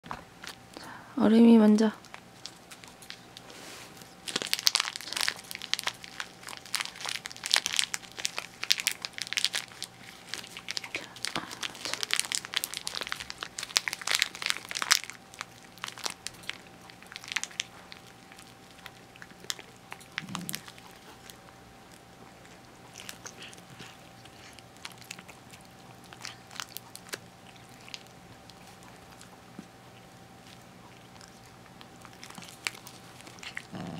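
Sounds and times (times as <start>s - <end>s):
plastic bag crinkling: 2.0s - 29.4s, 30.4s - 33.9s
cat crunching treat: 2.0s - 33.9s.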